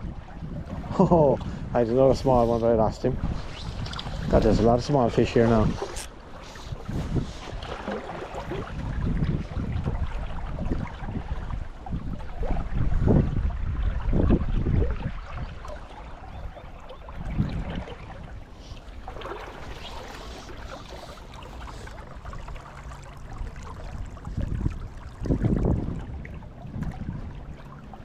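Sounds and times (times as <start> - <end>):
river water running: 0.0 - 28.0
wind buffeting microphone: 0.0 - 28.0.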